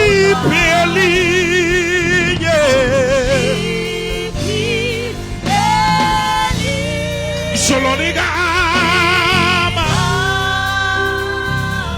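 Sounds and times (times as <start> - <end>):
person singing with vibrato: 0.0 - 11.9
sustained instrumental chords: 0.0 - 11.9.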